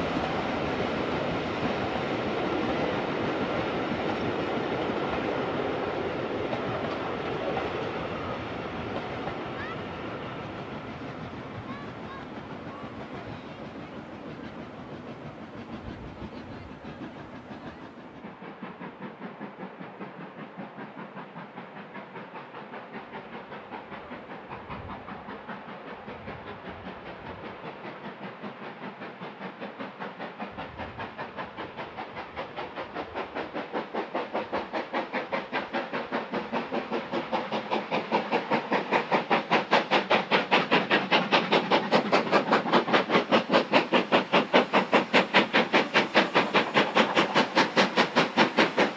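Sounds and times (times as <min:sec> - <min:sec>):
steam locomotive exhaust beats: 0:00.0 - 0:48.9.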